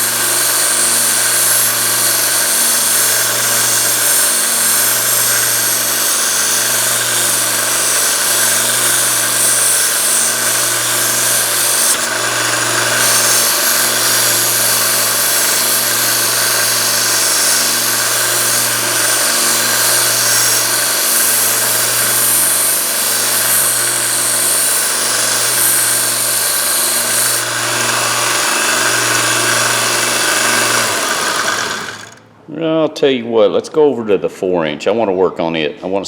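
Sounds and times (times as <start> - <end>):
metal grinding hiss: 0.0 - 32.3
belt sander motor hum: 0.0 - 32.4.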